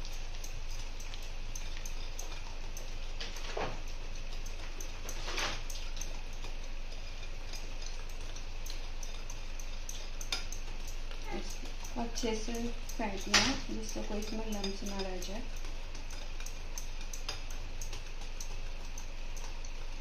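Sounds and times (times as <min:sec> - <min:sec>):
whisk ticking against glass bowl: 0:00.0 - 0:20.0.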